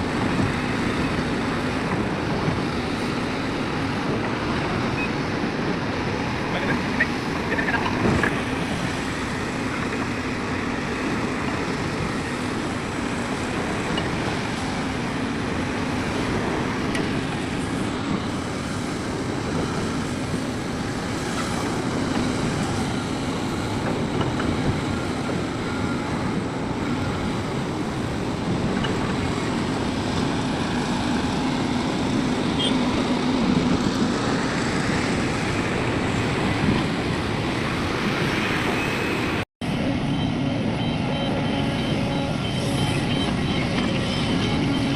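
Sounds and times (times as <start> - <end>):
heavy machinery engine droning: 0.0 - 44.9.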